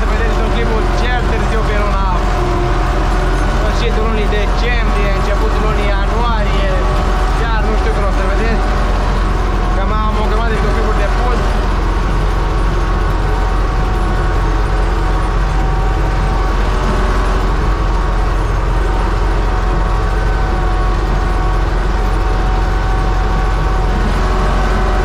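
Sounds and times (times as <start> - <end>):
rattle of gears and metal: 0.0 - 25.0
tractor diesel engine running: 0.0 - 25.0.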